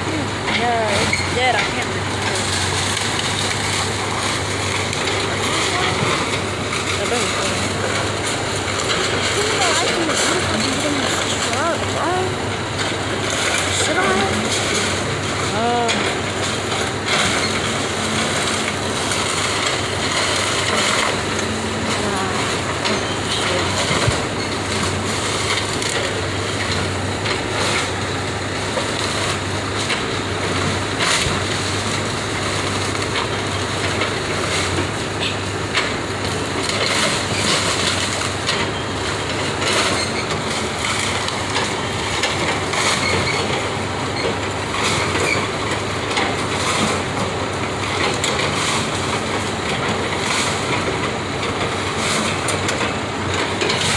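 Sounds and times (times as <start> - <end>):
bucket crushing timber: 0.0 - 53.9
diesel engine humming: 0.0 - 53.9
wood cracking and snapping: 0.1 - 53.9.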